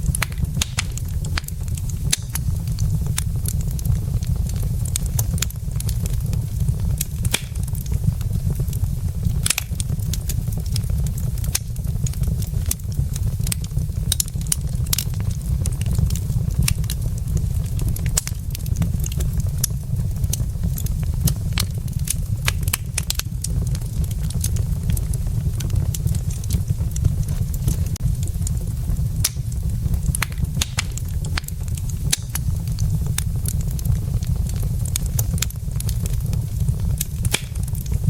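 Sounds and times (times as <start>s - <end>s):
low fire rumble: 0.0s - 38.0s
wood fire crackling and popping: 0.0s - 38.0s.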